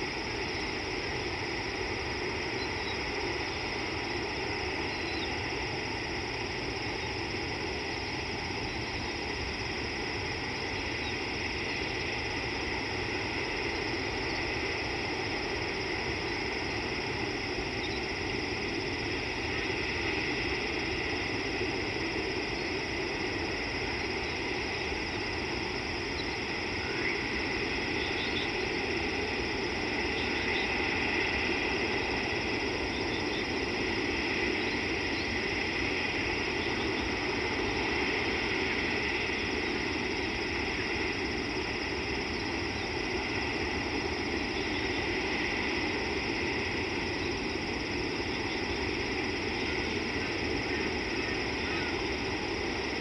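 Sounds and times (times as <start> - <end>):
outdoor background hiss: 0.0 - 53.0.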